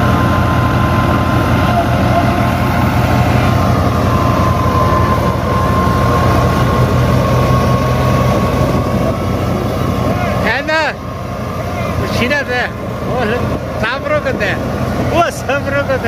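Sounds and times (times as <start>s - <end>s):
thin steady whine: 0.0s - 16.0s
vehicle engine running loudly: 0.0s - 16.0s.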